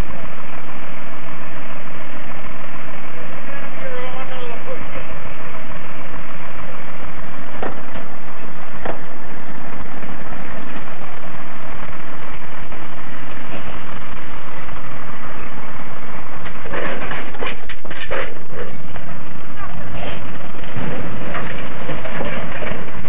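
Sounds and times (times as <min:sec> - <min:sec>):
crawler loader engine running: 0:00.0 - 0:23.0.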